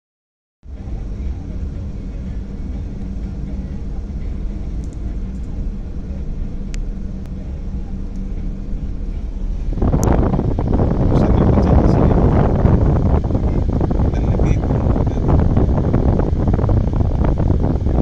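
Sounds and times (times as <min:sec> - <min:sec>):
car engine and road rumble: 0:00.6 - 0:18.0
loud rushing noise: 0:00.7 - 0:18.0.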